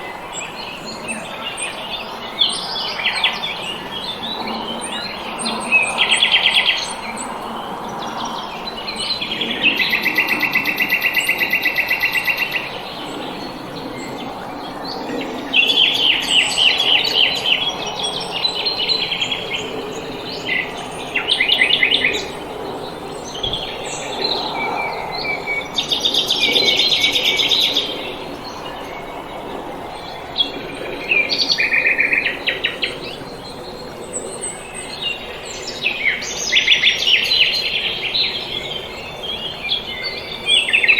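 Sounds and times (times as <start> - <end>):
songbirds trilling: 0.0 - 40.9.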